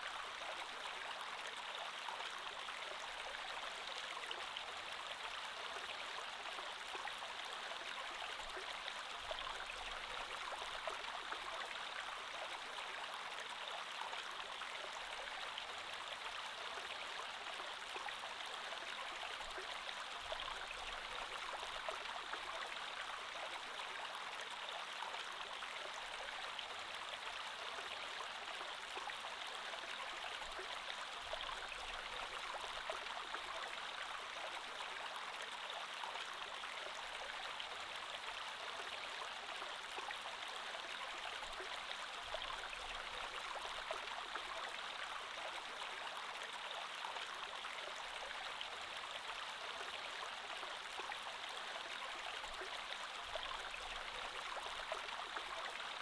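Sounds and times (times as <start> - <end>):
creek flowing: 0.0 - 56.0.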